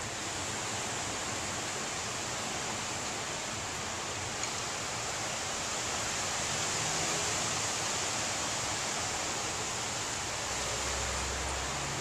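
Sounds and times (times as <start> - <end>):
rain: 0.0 - 12.0
wind through tree leaves: 0.0 - 12.0.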